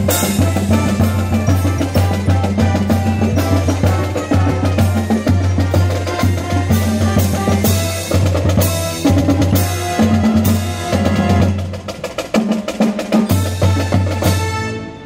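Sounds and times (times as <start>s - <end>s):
drum kit: 0.0s - 14.8s
brass band playing: 0.0s - 15.0s.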